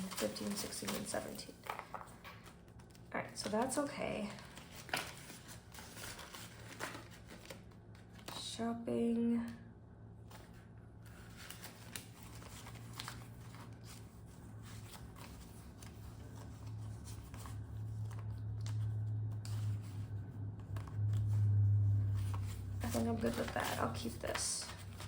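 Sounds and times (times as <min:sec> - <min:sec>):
banknotes rustling: 0:00.0 - 0:08.5, 0:11.1 - 0:25.0
low hum: 0:04.0 - 0:25.0.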